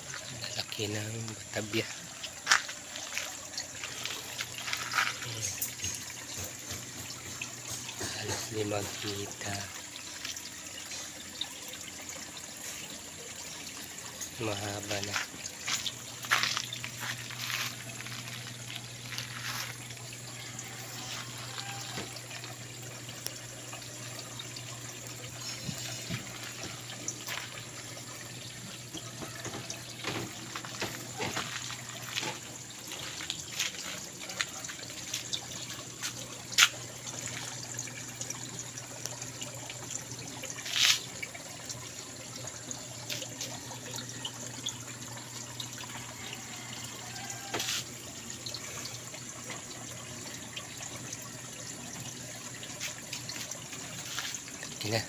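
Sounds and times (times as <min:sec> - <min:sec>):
water trickling through pipes: 0:00.0 - 0:55.0.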